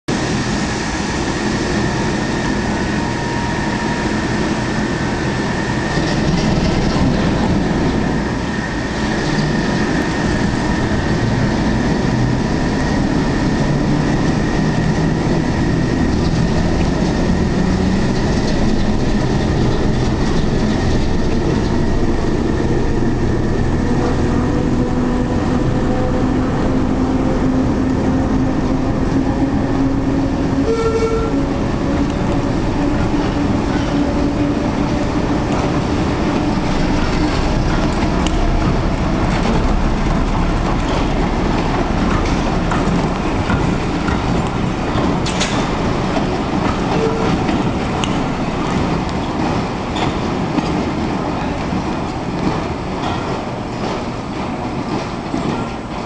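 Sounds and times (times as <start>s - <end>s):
diesel locomotive engines under load: 0.1s - 56.0s.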